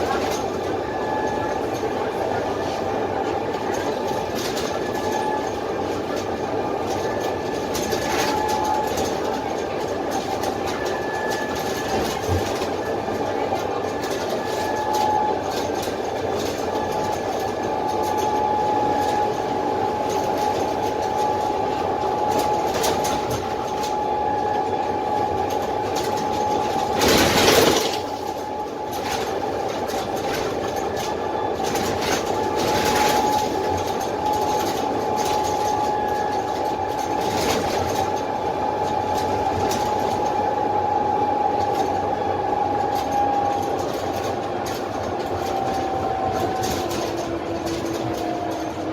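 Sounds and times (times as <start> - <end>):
bus engine whine: 0.0 - 48.9
road noise: 0.0 - 48.9.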